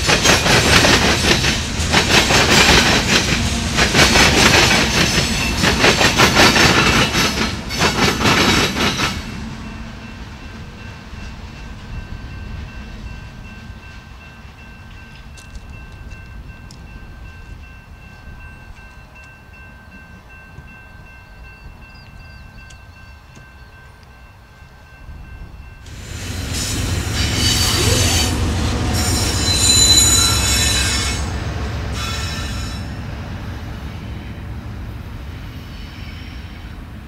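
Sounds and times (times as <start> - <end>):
train wheels squealing on rails: 0.0 - 10.2, 10.8 - 33.1, 35.2 - 36.9
freight train cars rolling past: 0.0 - 37.0.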